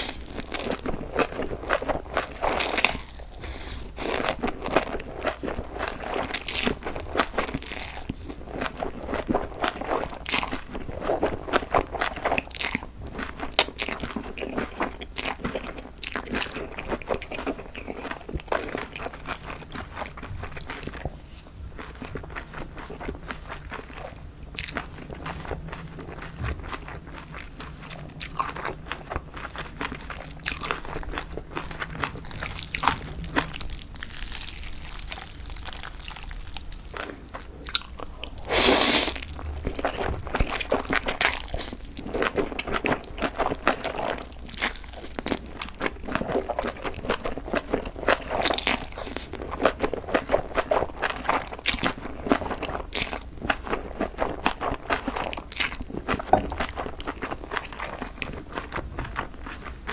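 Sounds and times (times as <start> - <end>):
crisp crunching while chewing: 0.0 - 59.9.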